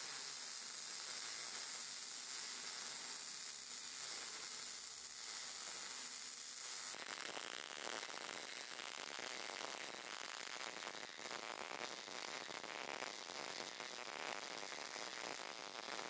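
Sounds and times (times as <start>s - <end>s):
welding arc sizzling: 0.0s - 16.0s.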